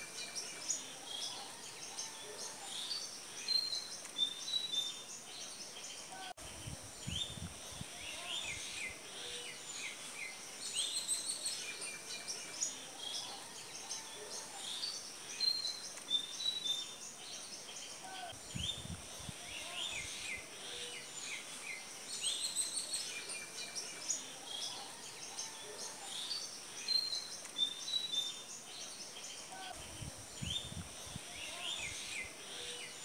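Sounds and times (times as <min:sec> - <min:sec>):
faint steady hiss: 0:00.0 - 0:33.0
small birds chirping: 0:00.0 - 0:33.0.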